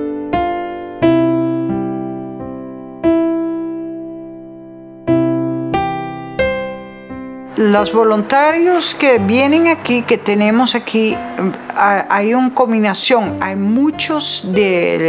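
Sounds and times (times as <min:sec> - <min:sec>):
slow piano notes and chords: 0:00.0 - 0:15.0.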